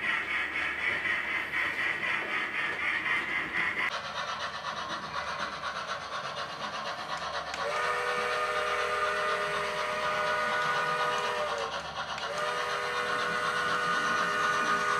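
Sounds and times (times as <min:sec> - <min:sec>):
model steam locomotive sounds: 0:00.0 - 0:14.9.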